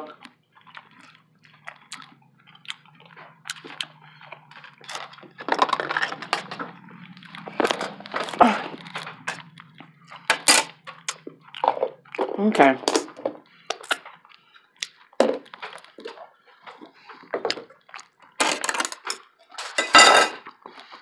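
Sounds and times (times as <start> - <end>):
close chewing with mouth clicks: 0.0 - 19.8, 20.4 - 21.0
faint low hum: 0.0 - 20.1.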